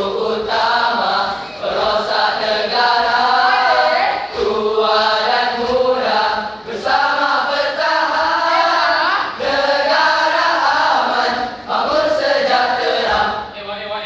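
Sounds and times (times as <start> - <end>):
boys chanting in unison: 0.0 - 13.5.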